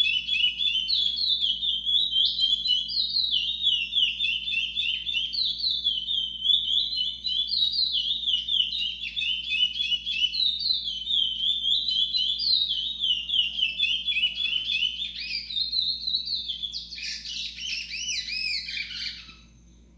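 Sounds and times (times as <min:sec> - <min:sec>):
finch singing high chirps: 0:00.0 - 0:19.8.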